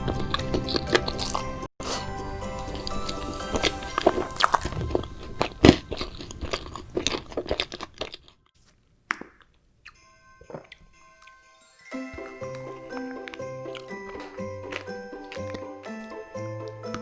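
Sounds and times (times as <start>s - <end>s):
crunchy chewing of food: 0.0s - 11.4s, 12.1s - 17.0s.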